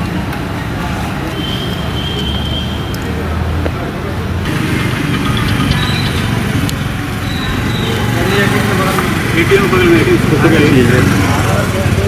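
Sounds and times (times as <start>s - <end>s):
crowd chatter: 0.0s - 12.0s
traffic and engine noise: 0.0s - 12.0s.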